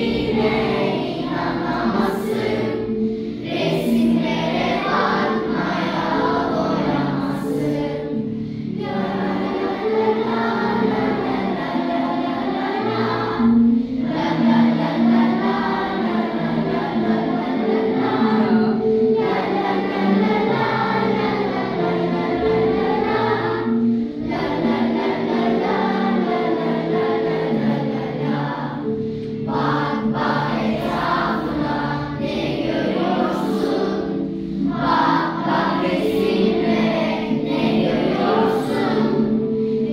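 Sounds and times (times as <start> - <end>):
children singing in chorus: 0.0 - 39.9
held instrumental notes: 0.0 - 39.9.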